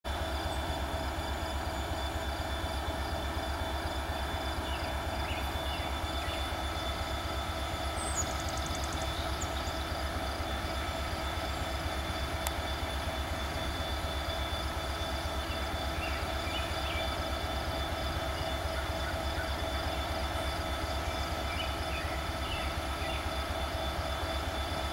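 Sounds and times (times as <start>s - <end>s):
diesel locomotive engine rumble: 0.0s - 24.9s
constant whine: 0.1s - 24.9s.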